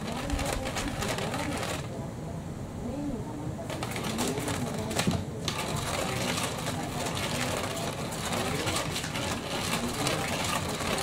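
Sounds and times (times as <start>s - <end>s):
toy motor whirring clatter: 0.0s - 1.9s, 3.7s - 11.0s.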